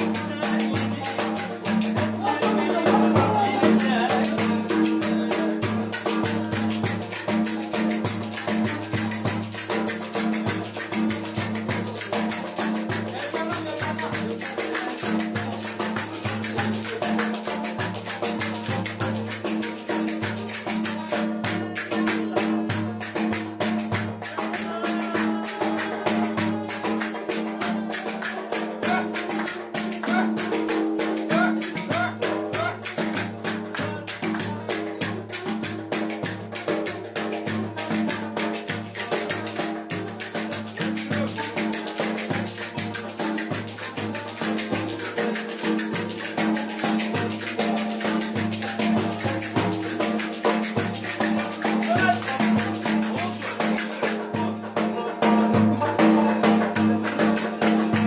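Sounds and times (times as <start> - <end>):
fast folk dance music: 5.4 - 21.8, 22.6 - 58.0.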